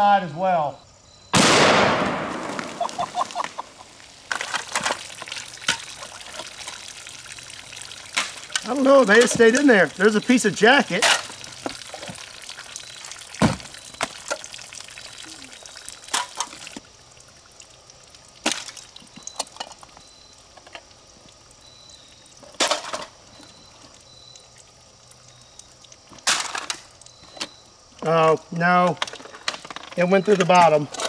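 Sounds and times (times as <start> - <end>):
soda pouring and dripping: 2.4 - 31.0.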